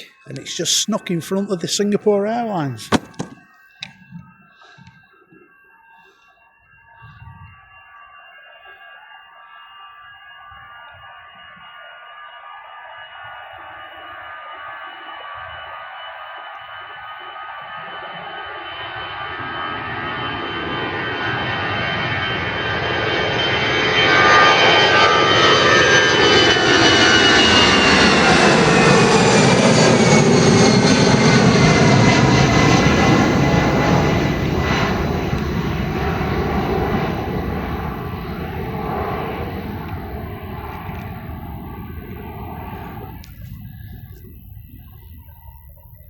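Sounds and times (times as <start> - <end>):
jet airliner taking off: 0.0 - 6.3, 9.4 - 46.0
high whining engine tones: 0.0 - 46.0.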